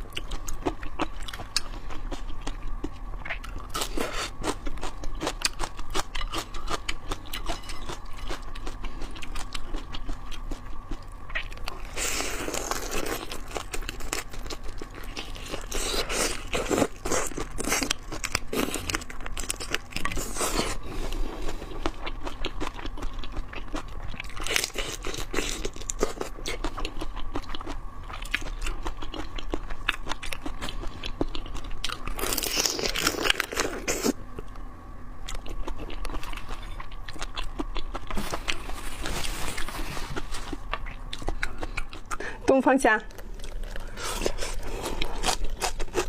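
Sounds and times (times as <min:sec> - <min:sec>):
crunchy chewing: 0:00.0 - 0:34.6, 0:35.2 - 0:42.4, 0:43.1 - 0:46.0.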